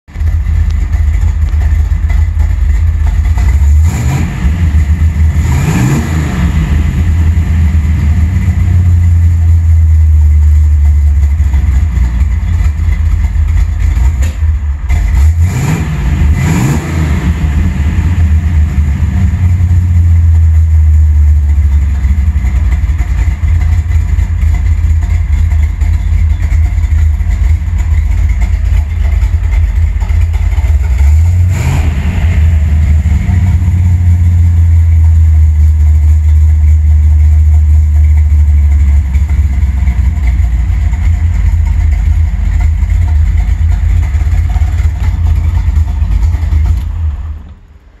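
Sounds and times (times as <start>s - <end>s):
truck engine idling and revving: 0.0s - 48.0s.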